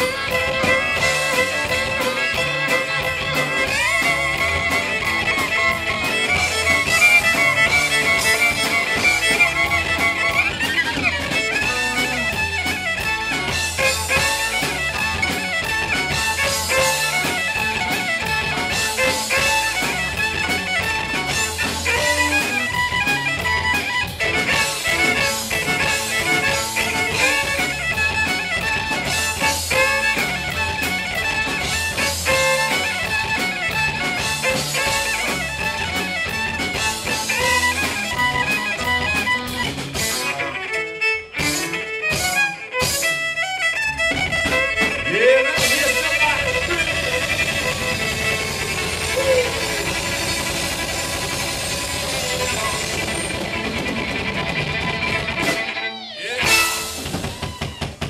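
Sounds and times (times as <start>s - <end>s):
fiddle: 0.0s - 58.0s
live country band instrumental: 0.0s - 58.0s.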